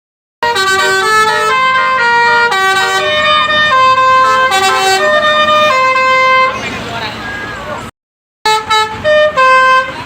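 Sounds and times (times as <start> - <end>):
multi-tone bus horn playing a tune: 0.4 - 7.8, 8.4 - 10.0.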